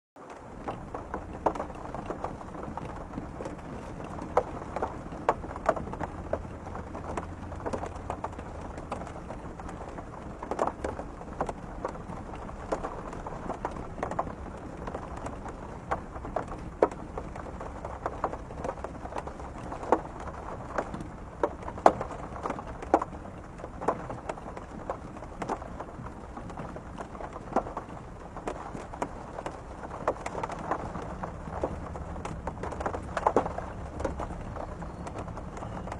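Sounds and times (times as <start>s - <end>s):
rain falling: 0.2s - 35.9s
raindrops tapping on window glass: 0.2s - 35.9s.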